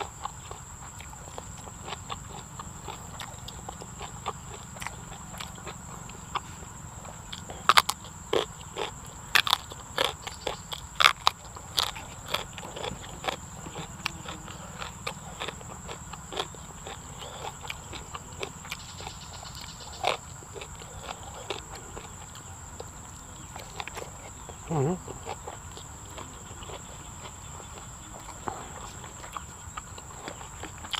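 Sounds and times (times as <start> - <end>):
chewing and crunching food: 0.0 - 30.9.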